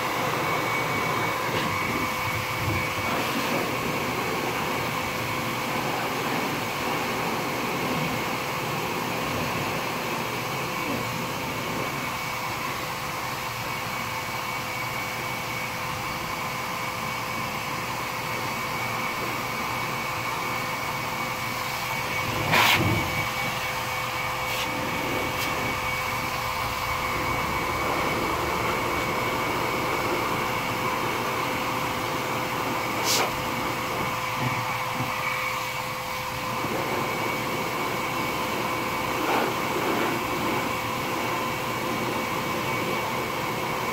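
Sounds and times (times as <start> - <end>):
blower motor whine: 0.0 - 43.9.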